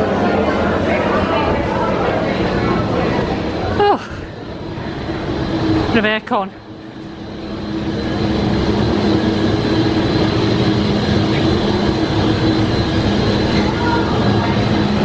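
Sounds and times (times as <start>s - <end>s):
air conditioning blowing: 0.0s - 15.0s.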